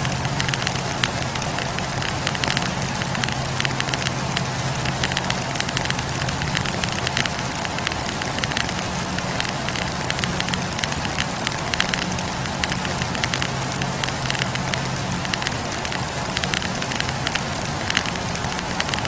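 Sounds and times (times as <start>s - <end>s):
campfire crackling: 0.0s - 19.0s
low hum: 0.0s - 19.0s.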